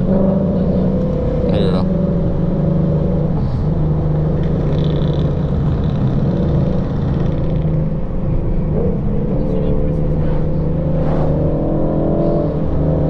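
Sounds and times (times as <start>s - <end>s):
car exhaust droning: 0.0s - 13.0s.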